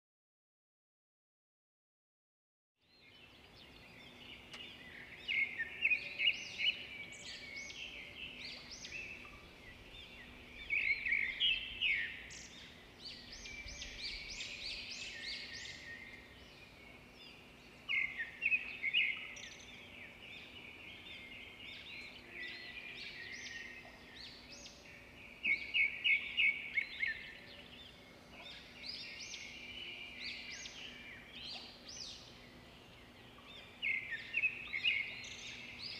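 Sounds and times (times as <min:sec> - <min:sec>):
songbirds chirping and trilling: 0:02.8 - 0:35.9.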